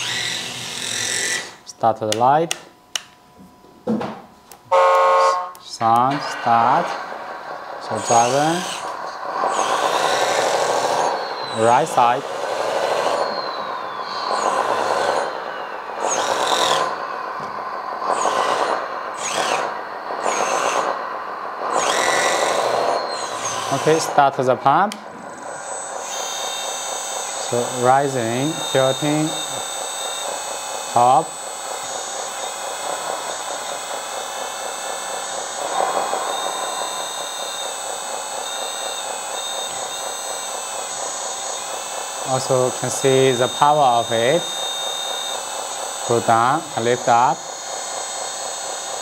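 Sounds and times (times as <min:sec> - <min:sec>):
electric motors whining: 0:00.0 - 0:49.0
simulated diesel engine: 0:05.9 - 0:49.0.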